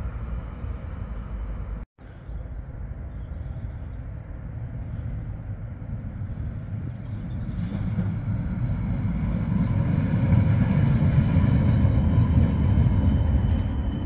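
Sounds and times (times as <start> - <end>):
tram running rumble: 0.0 - 14.0.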